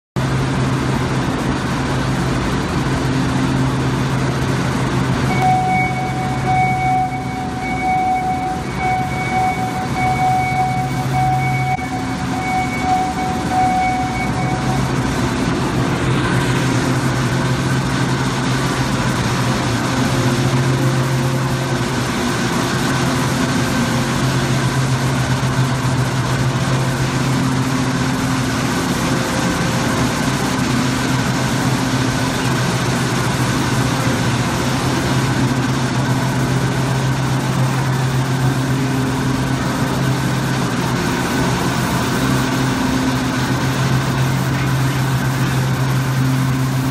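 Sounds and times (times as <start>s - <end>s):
machinery low hum: 0.2s - 46.9s
high-pitched machine tones: 5.1s - 46.9s.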